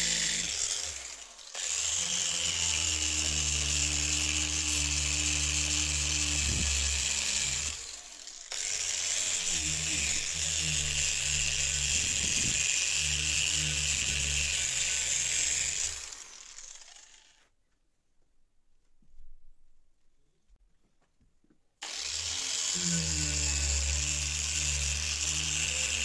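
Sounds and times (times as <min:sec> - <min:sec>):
wire brush grinder on metal: 0:00.0 - 0:17.4, 0:21.8 - 0:26.0.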